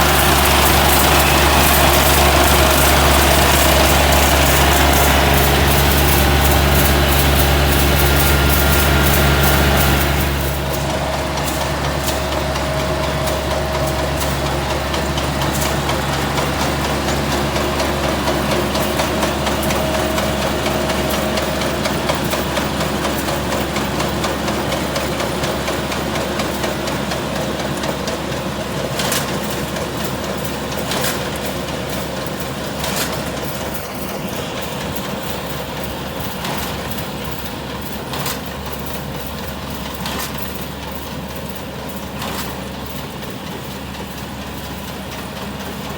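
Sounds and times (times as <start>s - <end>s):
combine harvester engine hum: 0.0s - 45.9s.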